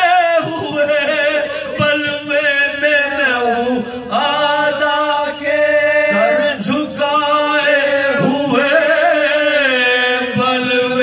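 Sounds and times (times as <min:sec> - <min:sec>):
men chanting unaccompanied: 0:00.0 - 0:11.0.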